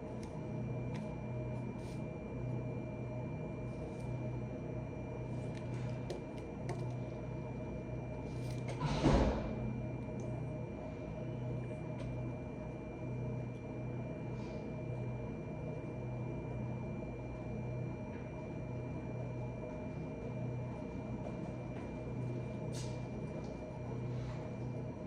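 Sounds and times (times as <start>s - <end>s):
low appliance hum: 0.0s - 25.0s.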